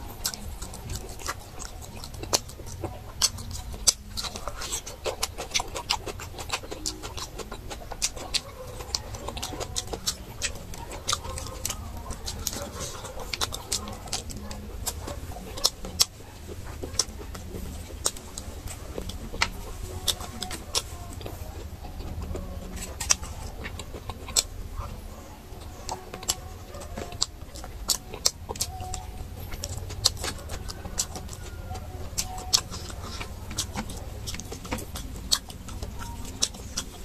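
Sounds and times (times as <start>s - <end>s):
mouth smacking clicks: 0.0s - 37.0s
steady low hum: 0.0s - 37.0s
wet chewing: 0.0s - 37.0s.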